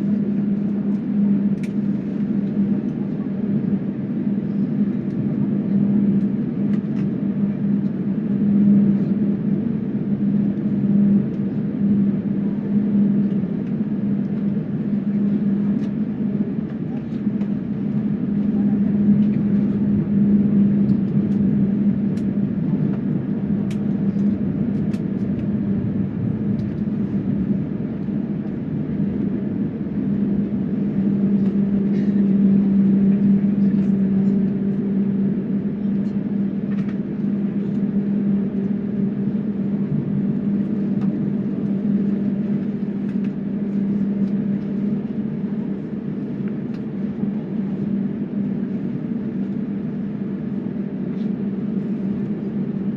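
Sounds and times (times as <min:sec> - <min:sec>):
constant low hum: 0:00.0 - 0:52.9
jet engine and airflow drone: 0:00.0 - 0:52.9.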